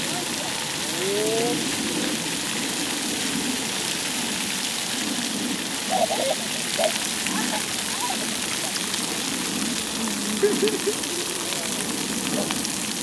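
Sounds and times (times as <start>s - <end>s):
fountain jets spraying and pattering: 0.0s - 13.0s.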